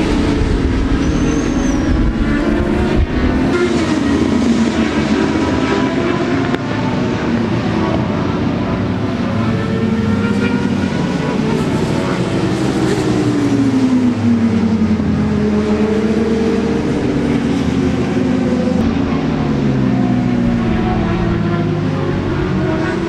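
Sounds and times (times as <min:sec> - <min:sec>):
racing motorcycle engines high revs: 0:00.0 - 0:23.0.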